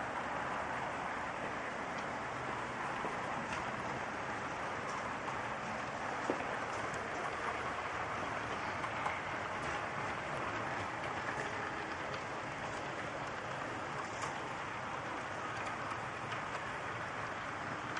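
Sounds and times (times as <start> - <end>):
faint clicks of wheels: 0.0 - 17.9
model train wheels rolling: 0.0 - 17.9.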